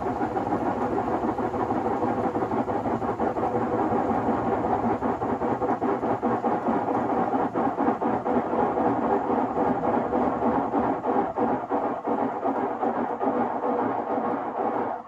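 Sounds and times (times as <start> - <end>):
washing machine drum rumbling: 0.0 - 13.0.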